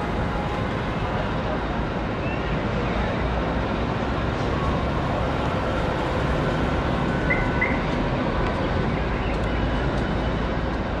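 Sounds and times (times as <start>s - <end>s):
railway and city rumble: 0.0s - 11.0s.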